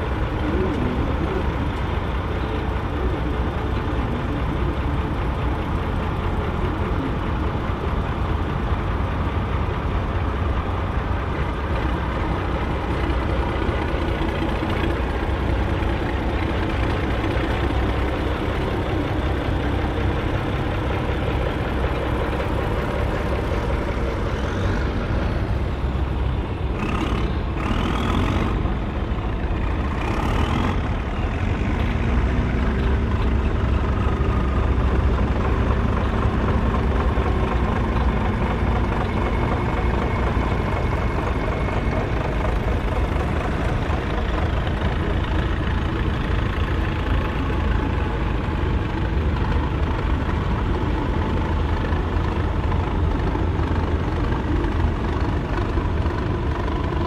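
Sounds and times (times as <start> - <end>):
tractor diesel engines running: 0.0 - 57.0.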